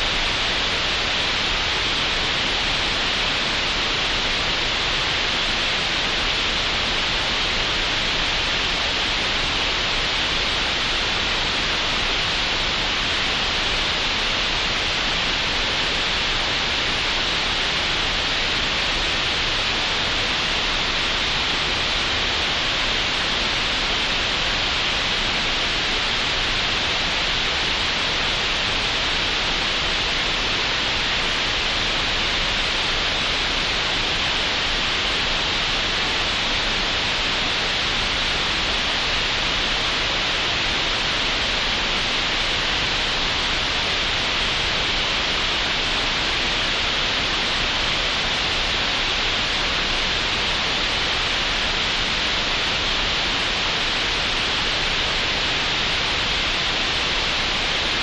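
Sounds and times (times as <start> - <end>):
steady hiss noise: 0.0 - 58.0.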